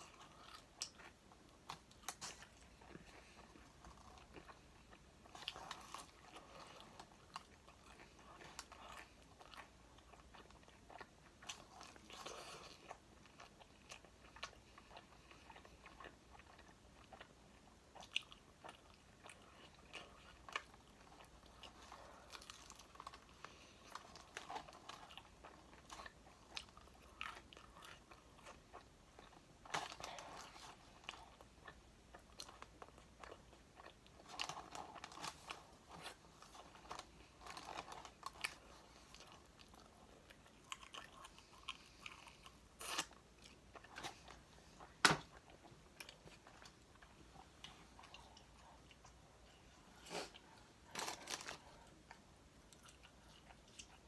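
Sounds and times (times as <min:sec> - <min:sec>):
person chewing crispy chicken: 0:00.0 - 0:54.0.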